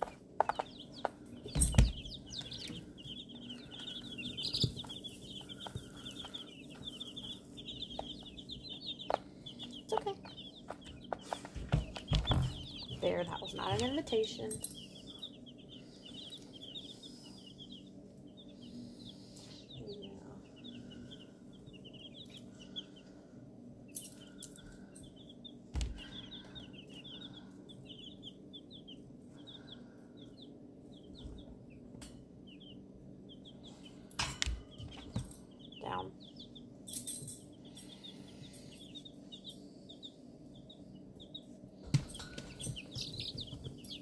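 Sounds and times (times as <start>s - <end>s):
baby chicks peeping: 0.0s - 44.0s.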